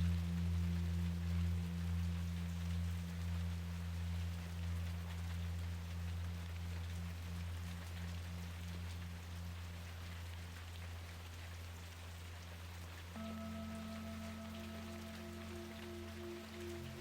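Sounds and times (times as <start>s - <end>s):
low pulsing held tone: 0.0s - 9.9s, 13.2s - 17.0s
steady rain falling: 0.0s - 17.0s.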